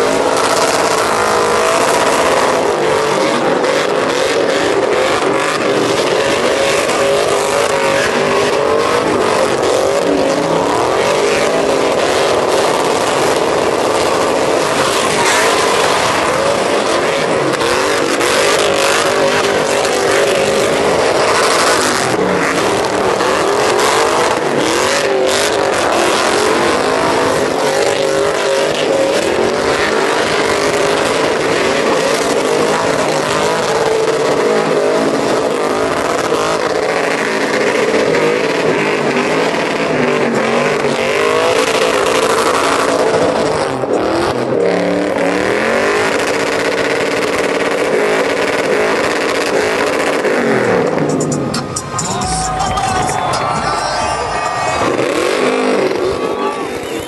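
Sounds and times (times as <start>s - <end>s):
truck engines revving high: 0.0s - 57.0s.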